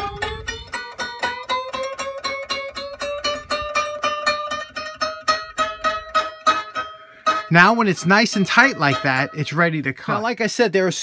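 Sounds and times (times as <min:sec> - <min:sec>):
saw blade twanging: 0:00.0 - 0:10.4.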